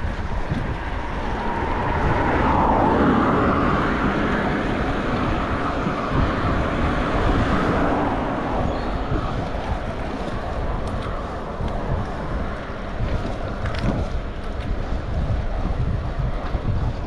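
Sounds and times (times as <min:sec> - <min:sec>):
car passing: 0:00.0 - 0:17.0
road traffic: 0:00.0 - 0:17.0
wind rumbling on microphone: 0:00.0 - 0:17.0.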